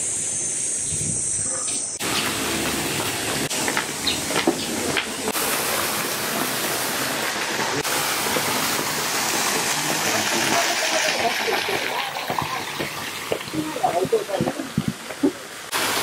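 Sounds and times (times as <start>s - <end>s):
fountain water splashing: 2.0s - 16.0s.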